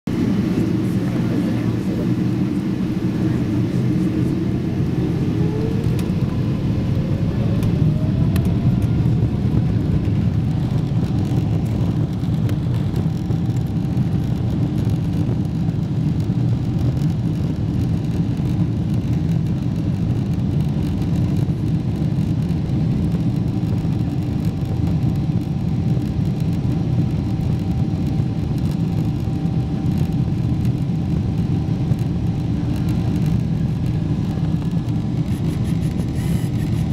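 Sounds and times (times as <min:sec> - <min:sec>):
jet engines rumbling and whining: 0:00.1 - 0:36.9.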